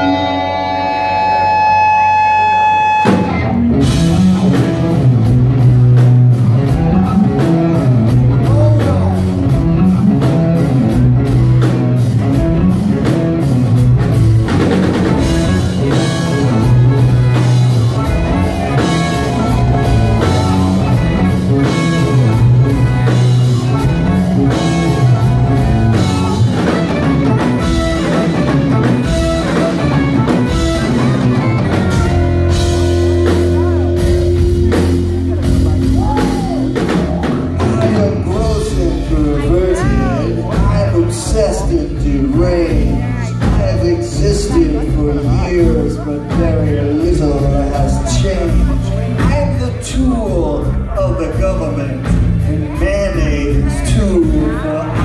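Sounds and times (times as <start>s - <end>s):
drum kit: 0.0s - 55.0s
electric guitars: 0.0s - 55.0s
keyboards: 0.0s - 55.0s
loud low bass line: 0.0s - 55.0s.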